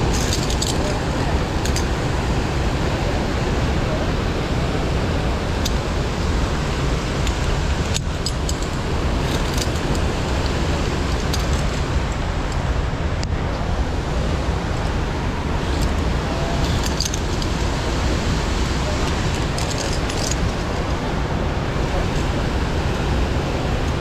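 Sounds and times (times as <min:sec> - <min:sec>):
mountain stream rushing: 0:00.0 - 0:24.0.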